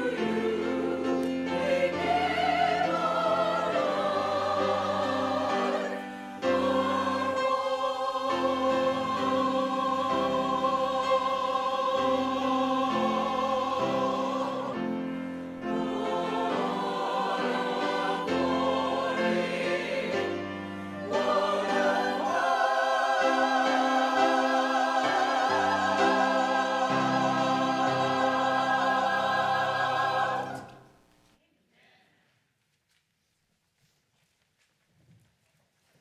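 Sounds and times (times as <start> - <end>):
church choir singing a hymn: 0.0 - 31.0.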